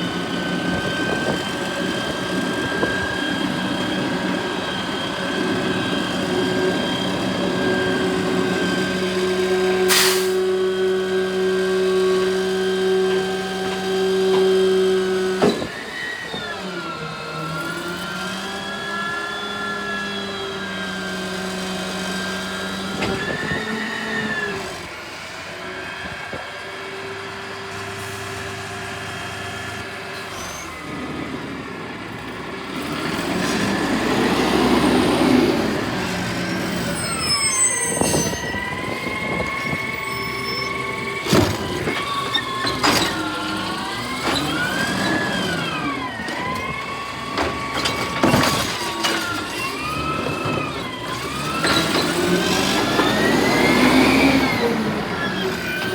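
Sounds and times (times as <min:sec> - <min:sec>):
garbage truck engine revving: 0:00.0 - 0:55.9.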